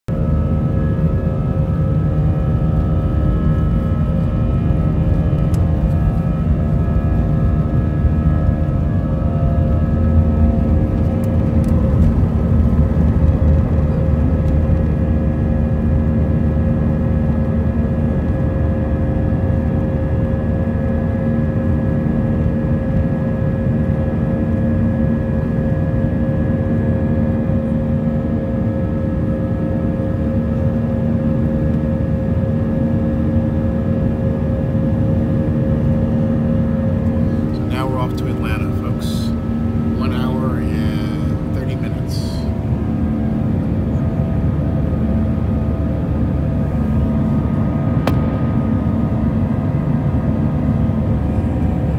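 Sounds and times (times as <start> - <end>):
jet engines roaring with whine: 0.1 - 51.9.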